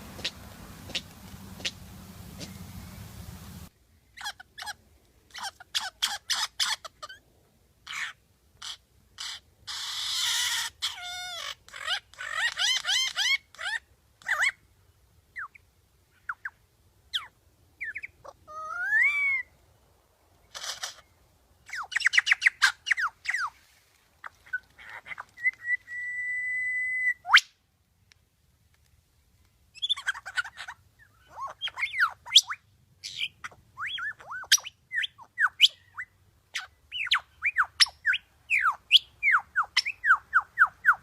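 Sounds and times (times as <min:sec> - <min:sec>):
songbird singing: 0:00.0 - 0:07.2, 0:07.8 - 0:27.6, 0:29.1 - 0:41.0.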